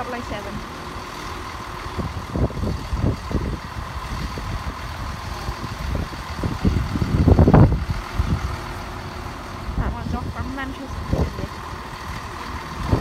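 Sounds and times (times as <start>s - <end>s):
train engine idling hum: 0.0s - 13.0s.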